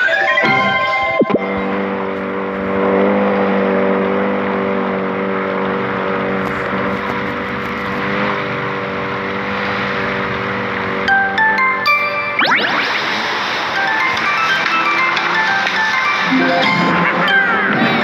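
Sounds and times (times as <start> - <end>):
jet ski engine running: 0.1 - 18.0.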